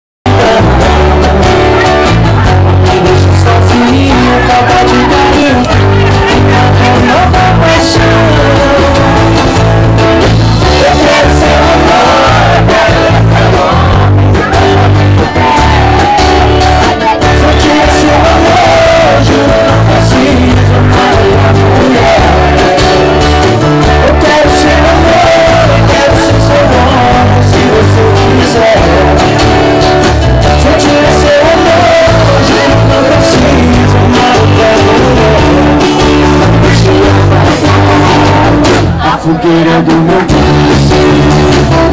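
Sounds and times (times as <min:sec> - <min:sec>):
bass beat: 0:00.2 - 0:41.9
guitar: 0:00.2 - 0:41.9
group of people singing: 0:00.3 - 0:02.3, 0:03.0 - 0:09.5, 0:10.6 - 0:41.7.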